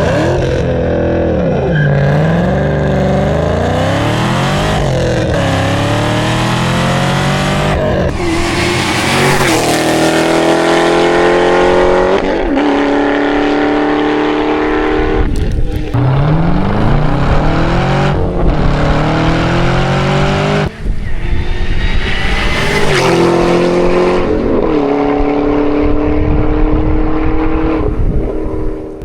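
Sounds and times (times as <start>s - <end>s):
car engines accelerating hard: 0.0s - 29.0s.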